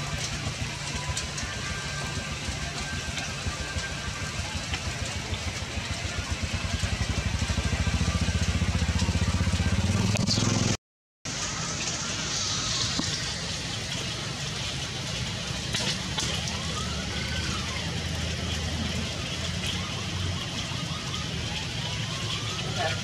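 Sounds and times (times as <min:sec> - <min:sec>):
rain hiss: 0:00.0 - 0:10.6, 0:11.3 - 0:23.0
low pulsing drone: 0:00.0 - 0:23.0.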